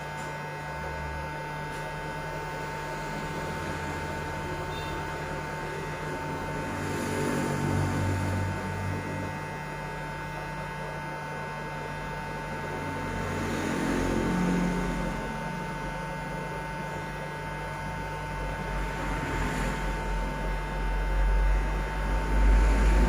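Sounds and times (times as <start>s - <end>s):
electrical mains hum: 0.0s - 23.0s
high whine: 0.0s - 23.0s.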